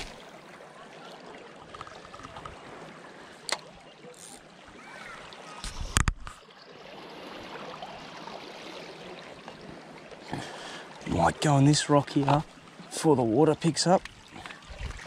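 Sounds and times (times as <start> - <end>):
small waves lapping on rocks: 0.0 - 15.0.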